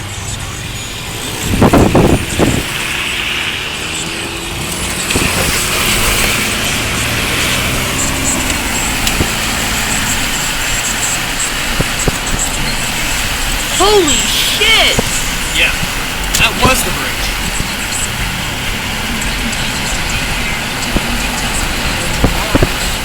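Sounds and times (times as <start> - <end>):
heavy rain: 0.0 - 23.0
rushing creek: 0.0 - 23.0.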